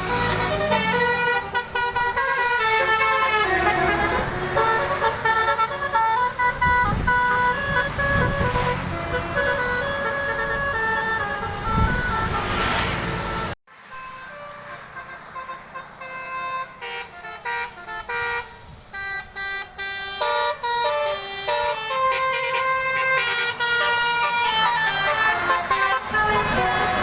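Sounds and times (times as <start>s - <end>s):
multi-tone air horn melody: 0.0s - 27.0s
traffic and engine rumble: 0.0s - 27.0s.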